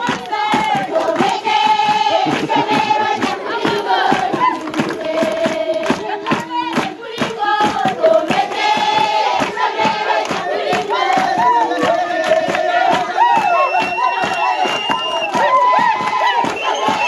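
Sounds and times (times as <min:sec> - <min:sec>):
children singing and shouting: 0:00.0 - 0:17.0
rhythmic hand clapping: 0:00.0 - 0:17.0.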